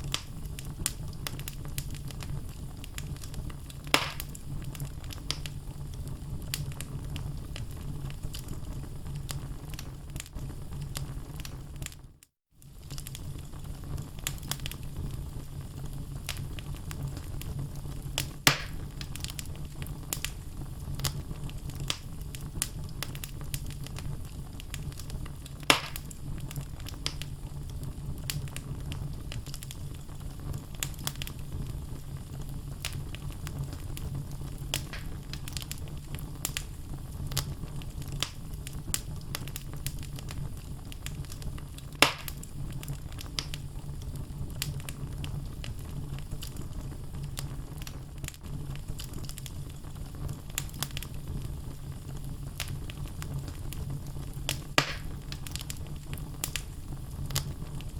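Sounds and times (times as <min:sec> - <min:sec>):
logs crackling in fire: 0:00.0 - 0:57.9
loud fire pops: 0:00.0 - 0:57.9
low fire rumble: 0:00.0 - 0:57.9.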